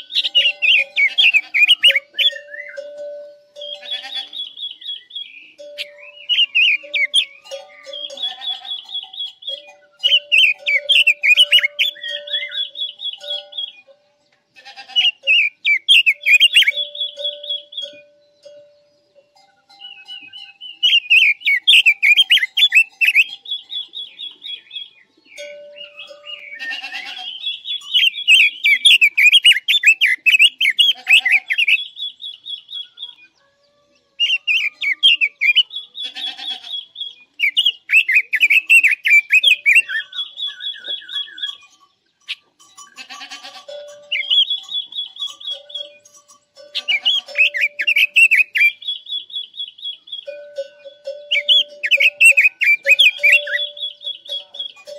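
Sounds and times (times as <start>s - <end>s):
bird warbling whistled song: 0.0s - 14.0s, 14.9s - 18.8s, 19.6s - 33.3s, 34.2s - 42.4s, 43.8s - 54.9s
harsh buzzy bird calls: 0.0s - 24.5s, 25.3s - 33.4s, 34.2s - 54.9s.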